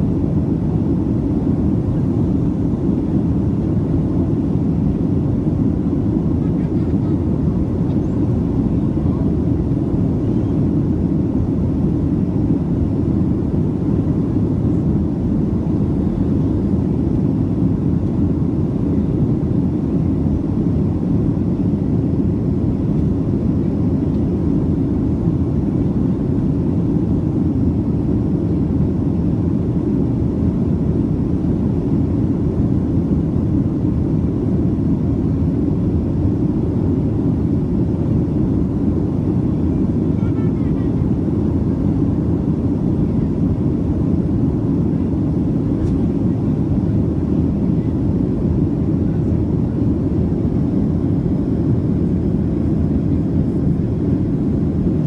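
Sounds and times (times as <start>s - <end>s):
airliner cabin engine roar: 0.0s - 55.0s.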